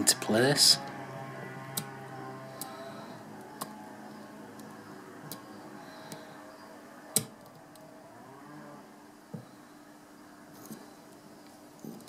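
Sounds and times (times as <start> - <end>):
faint steady drone: 0.0 - 12.0.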